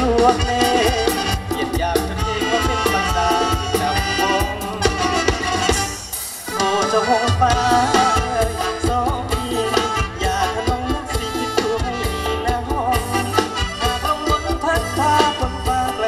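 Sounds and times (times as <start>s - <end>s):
amplified live band music: 0.0s - 16.0s.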